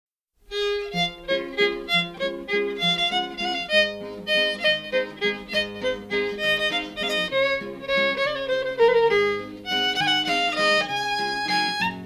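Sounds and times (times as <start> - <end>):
lively fiddle tune: 0.5 - 12.0.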